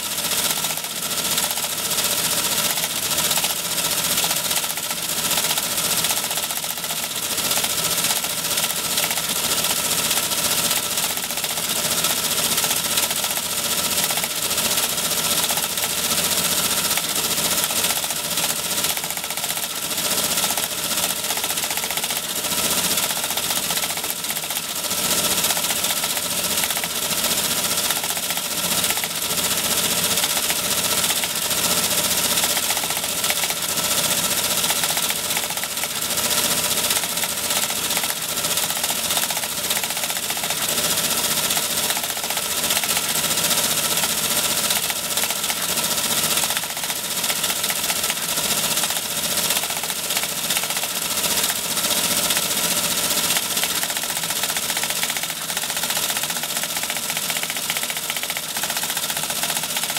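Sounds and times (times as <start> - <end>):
teletype printer clattering: 0.0 - 59.9.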